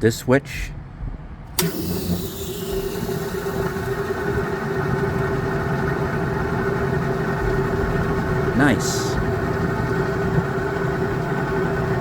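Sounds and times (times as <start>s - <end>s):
exhaust fan humming: 1.4s - 12.0s.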